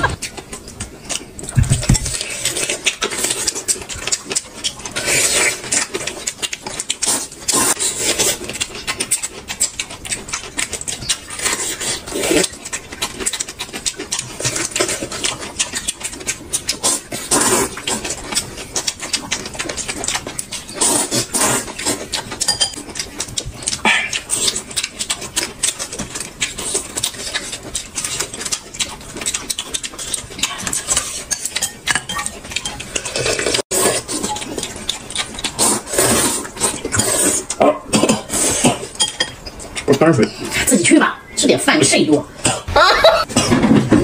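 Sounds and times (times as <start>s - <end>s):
wet chewing and smacking: 0.0s - 41.3s.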